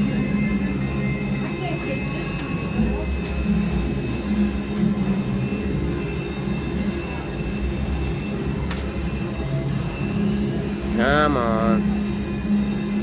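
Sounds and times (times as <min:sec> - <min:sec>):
slot machine tones and jingles: 0:00.0 - 0:13.0.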